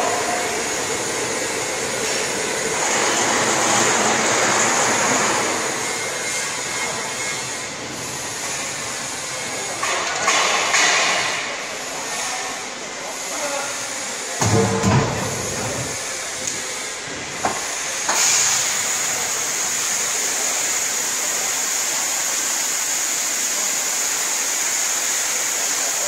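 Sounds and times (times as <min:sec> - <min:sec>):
vacuum blower hissing: 0:00.0 - 0:09.6, 0:13.3 - 0:26.0.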